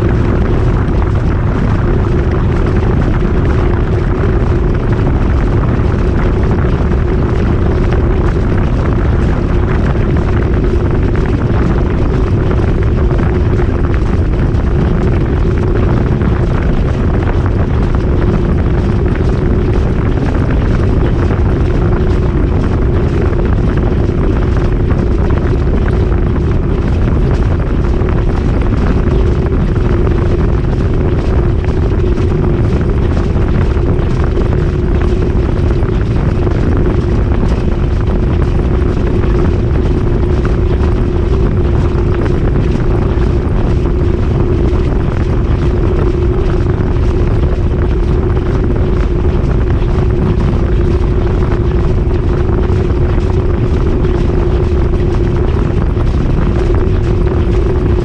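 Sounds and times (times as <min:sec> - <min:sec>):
washing machine spinning: 0:03.2 - 0:58.0.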